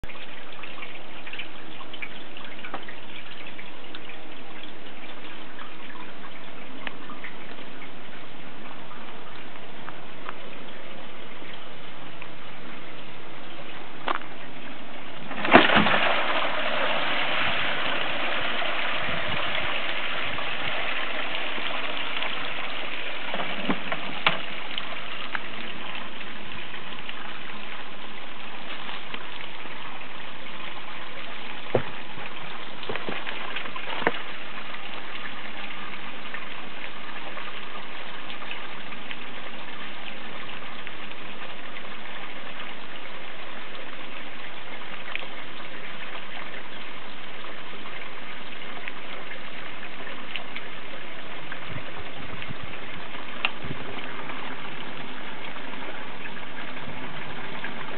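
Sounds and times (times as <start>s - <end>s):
flowing water: 0.0s - 57.9s.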